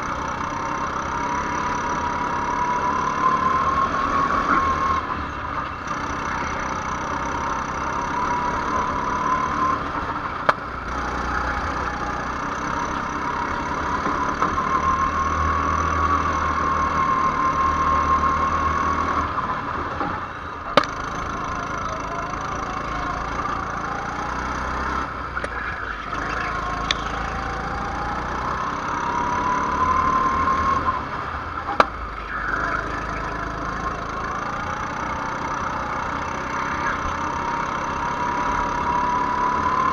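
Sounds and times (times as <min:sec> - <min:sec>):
go-kart engine: 0:00.0 - 0:39.9.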